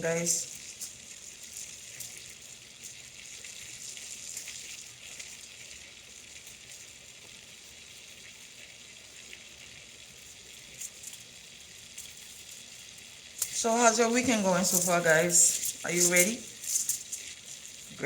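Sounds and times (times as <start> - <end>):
faint crackles: 0.0 - 18.0
frying sizzle: 0.0 - 18.0.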